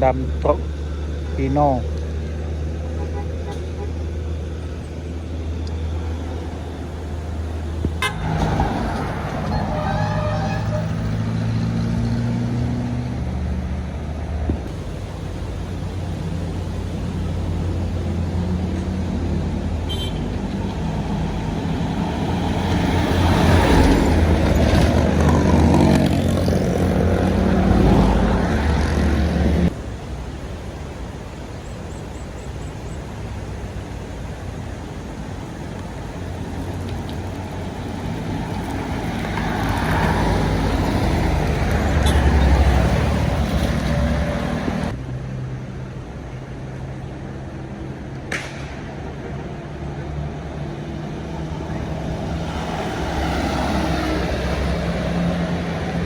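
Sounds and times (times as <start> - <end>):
diesel vehicles driving past: 0.0 - 56.0.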